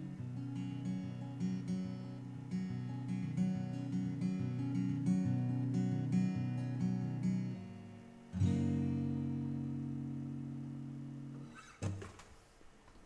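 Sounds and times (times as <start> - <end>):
acoustic guitar strummed chord: 0.0 - 11.7
acoustic guitar picking: 0.0 - 12.1.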